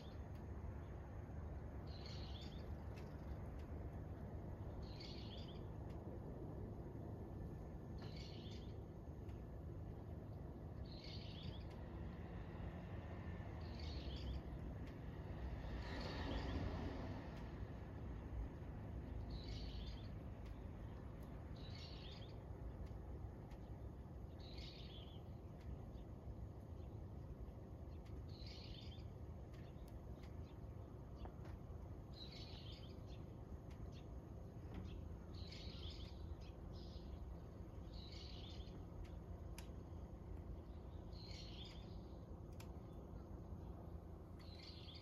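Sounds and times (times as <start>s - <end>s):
low outdoor rumble: 0.0s - 45.0s
small bird chirping: 1.6s - 6.1s, 8.0s - 9.5s, 10.2s - 12.4s, 13.5s - 16.6s, 19.0s - 45.0s.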